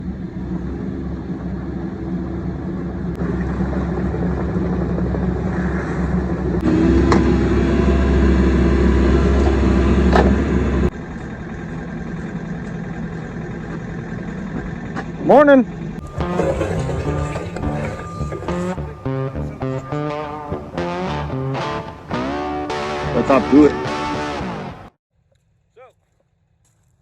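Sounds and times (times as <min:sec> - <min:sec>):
vehicle engine running: 0:00.0 - 0:24.3.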